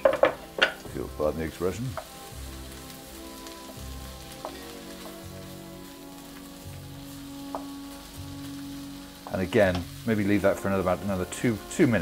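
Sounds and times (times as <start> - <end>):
food sizzling in a frying pan: 0.0 - 12.0
quiet background music: 0.0 - 12.0.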